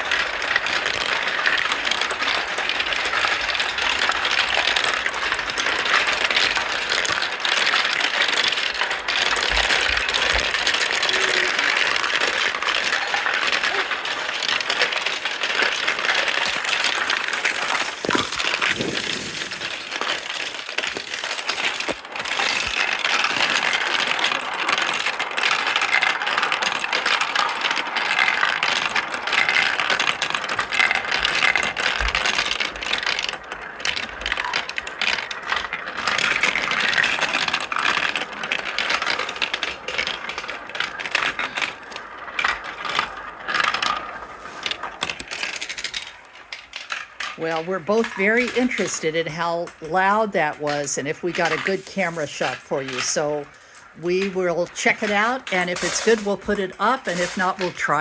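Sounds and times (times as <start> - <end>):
marbles rattling through marble run: 0.0 - 58.0.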